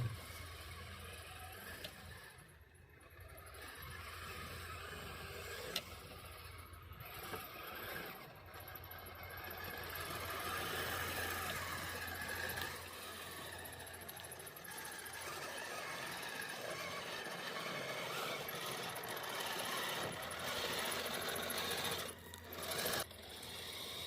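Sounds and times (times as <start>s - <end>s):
toy motor whine: 0.0s - 24.0s
track rattle: 0.0s - 24.0s.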